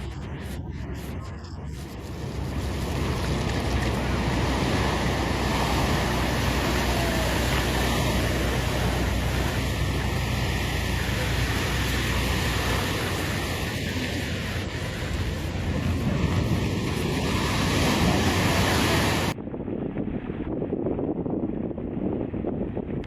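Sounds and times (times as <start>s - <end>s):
deep low rumble: 0.0s - 23.0s
rushing wind and water: 0.0s - 23.0s.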